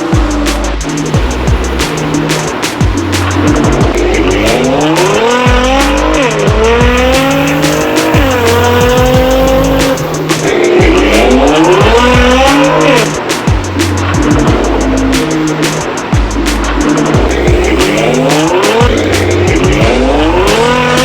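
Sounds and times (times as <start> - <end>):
electronic beat music: 0.0 - 21.0
sports car engine revving: 0.0 - 21.0.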